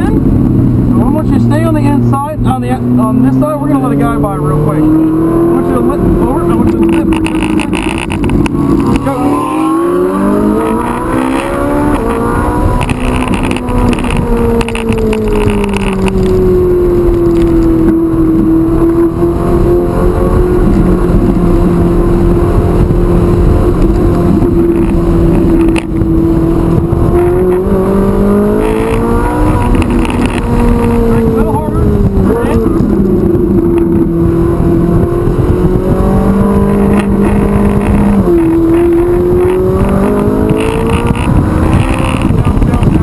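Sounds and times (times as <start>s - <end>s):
sports car engine under power: 0.0s - 43.0s.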